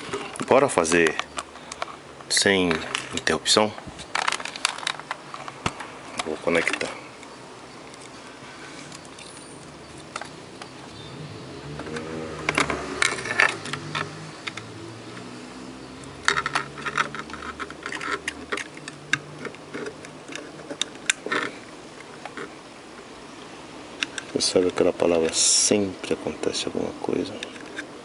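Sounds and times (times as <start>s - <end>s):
light clicks and rattles of parts: 0.0s - 7.3s, 7.9s - 11.0s, 11.8s - 15.3s, 16.0s - 22.5s, 23.9s - 28.0s.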